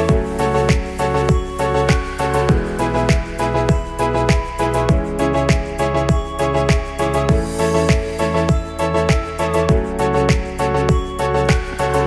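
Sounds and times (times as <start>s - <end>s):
kick drum beat: 0.1s - 11.8s.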